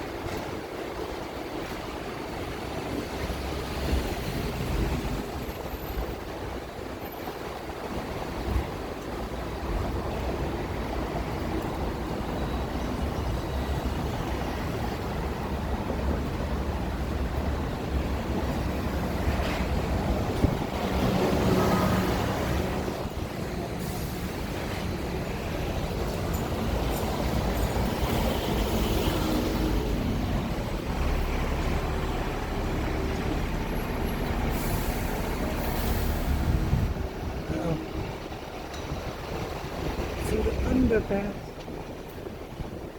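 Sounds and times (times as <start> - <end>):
electric tram running on track: 0.0 - 42.9.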